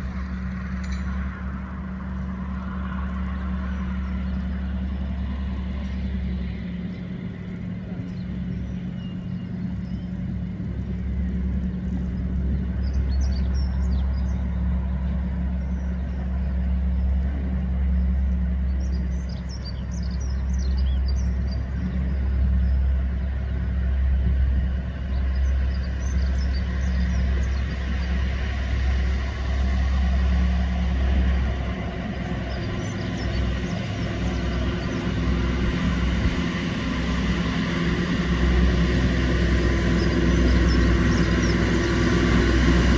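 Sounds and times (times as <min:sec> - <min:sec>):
diesel locomotive engine hum: 0:00.0 - 0:42.9.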